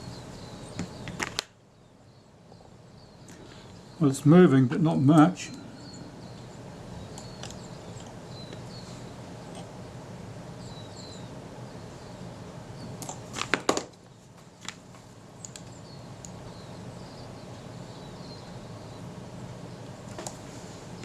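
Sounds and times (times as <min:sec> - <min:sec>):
faint bird chirps: 0:00.0 - 0:13.0, 0:15.4 - 0:19.8
steady low hum: 0:00.0 - 0:21.0.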